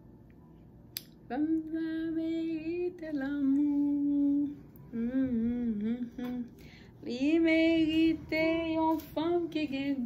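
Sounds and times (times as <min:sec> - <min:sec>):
woman singing without words: 0:01.3 - 0:10.0.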